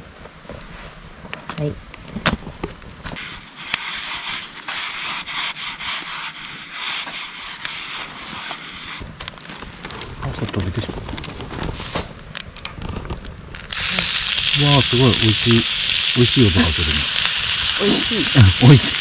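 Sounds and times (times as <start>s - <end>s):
wood fire crackling: 0.0s - 19.0s
fire hissing: 3.0s - 12.3s, 13.0s - 19.0s.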